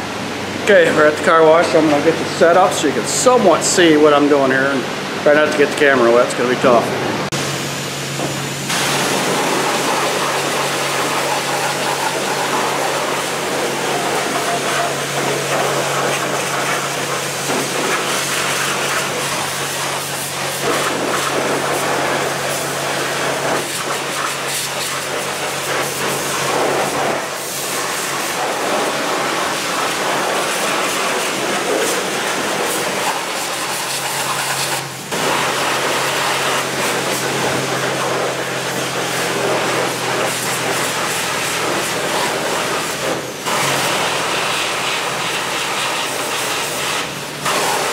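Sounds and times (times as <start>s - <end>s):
pressure washer spraying water: 7.3s - 47.9s.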